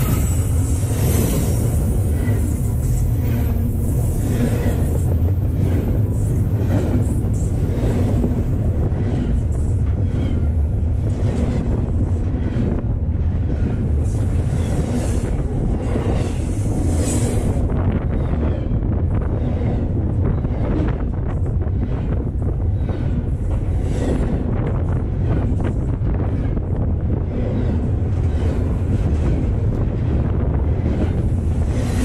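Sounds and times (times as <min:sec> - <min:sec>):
freight train wheels rumbling: 0:00.0 - 0:32.0
train clanks and clatter: 0:00.0 - 0:32.0.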